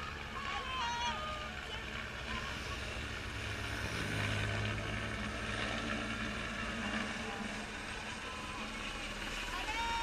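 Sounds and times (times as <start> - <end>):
helicopter droning: 0.0 - 10.0
motorcycle passing: 1.3 - 10.0.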